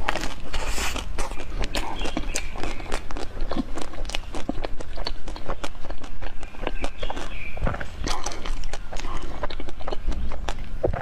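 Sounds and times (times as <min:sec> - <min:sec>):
crunching and chewing frozen dessert: 0:00.0 - 0:11.0.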